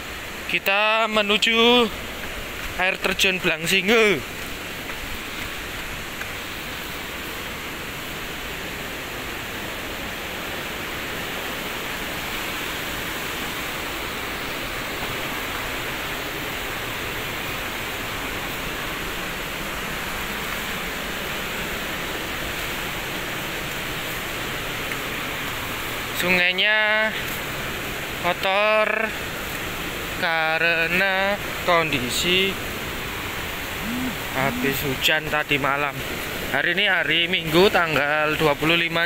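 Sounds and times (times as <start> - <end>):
river rushing over rocks: 0.0 - 39.0.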